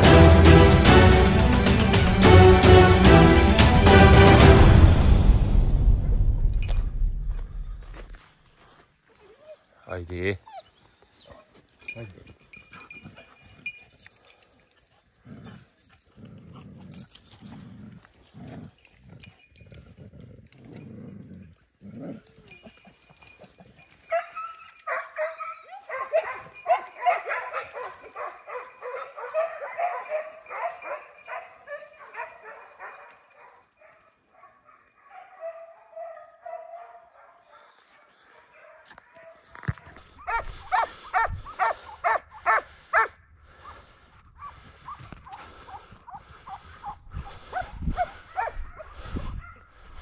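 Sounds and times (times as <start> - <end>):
hounds barking and baying: 6.0 - 50.0.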